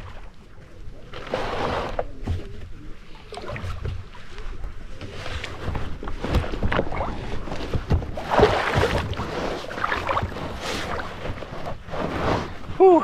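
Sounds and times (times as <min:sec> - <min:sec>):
water splashing: 0:00.0 - 0:13.0
kayak hull and paddle knocking: 0:01.1 - 0:12.8.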